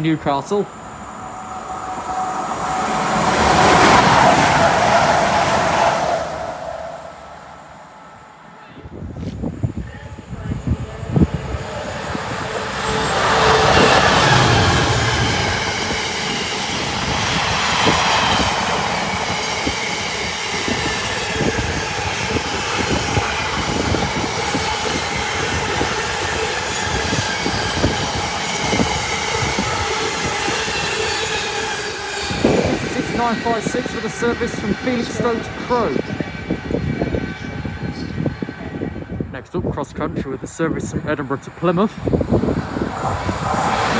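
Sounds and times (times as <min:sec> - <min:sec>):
diesel locomotive engine: 0:00.0 - 0:43.9.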